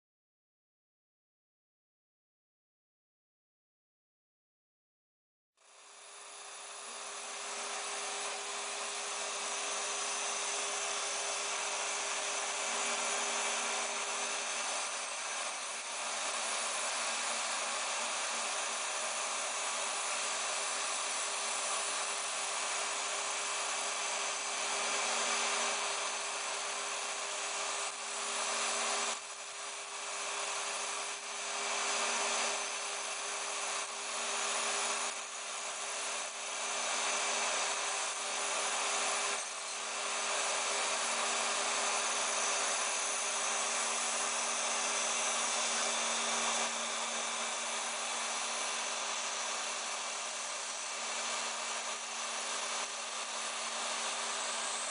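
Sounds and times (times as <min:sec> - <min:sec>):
router spindle humming: 0:05.6 - 0:54.9.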